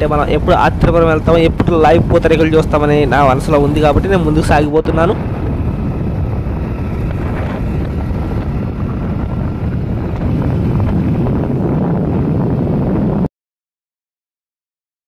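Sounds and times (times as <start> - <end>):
road and engine noise: 0.0 - 13.3
wind buffeting microphone: 0.0 - 13.3.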